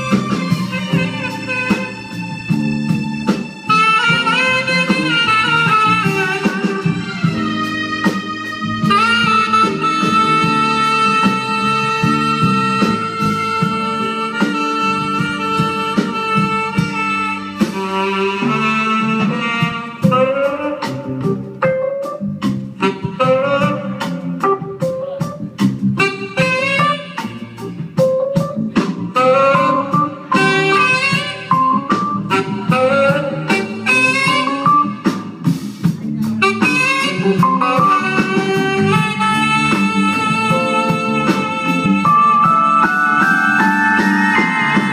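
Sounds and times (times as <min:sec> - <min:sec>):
tenor saxophone playing: 0:00.0 - 0:22.2, 0:22.8 - 0:35.6, 0:36.2 - 0:44.9
drums: 0:00.0 - 0:44.9
jazz band accompaniment: 0:00.0 - 0:44.9.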